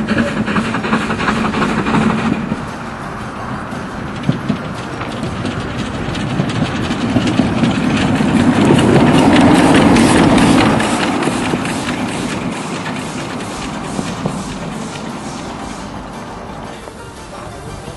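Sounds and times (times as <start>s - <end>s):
steam hissing: 0.0s - 17.9s
steam locomotive chuffing: 0.0s - 17.9s.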